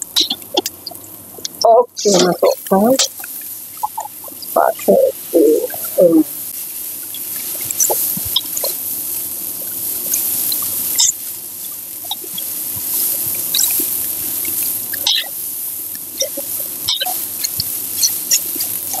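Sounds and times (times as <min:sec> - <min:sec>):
noodles sizzling in hot oil: 0:02.6 - 0:19.0.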